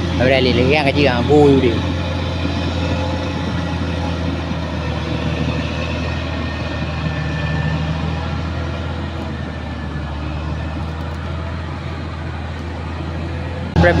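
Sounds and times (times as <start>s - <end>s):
bulldozer diesel engine drone: 0.0s - 14.0s.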